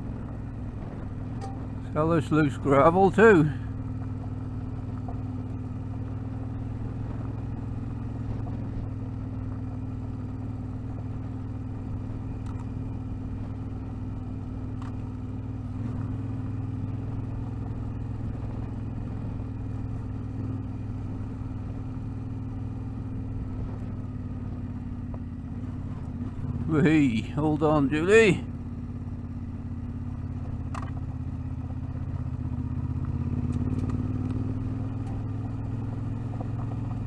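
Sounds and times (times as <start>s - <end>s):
tyres on loose gravel: 0.0s - 37.0s
vehicle engine running: 0.0s - 37.0s.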